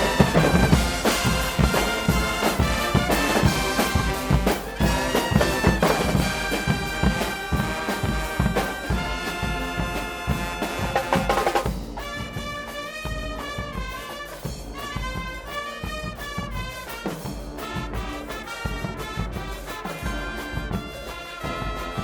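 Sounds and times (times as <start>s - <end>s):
brass band playing: 0.0s - 22.0s
loud drum beat: 0.0s - 22.0s.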